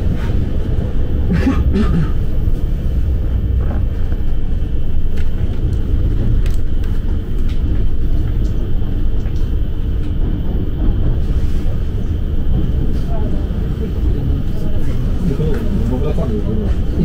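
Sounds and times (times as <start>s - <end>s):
moving train rumble: 0.0s - 17.0s.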